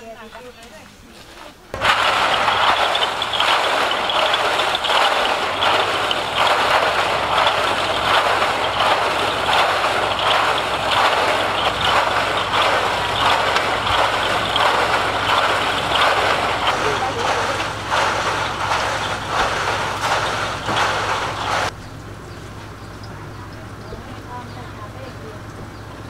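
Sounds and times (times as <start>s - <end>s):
machine churning rattle: 1.8s - 26.0s.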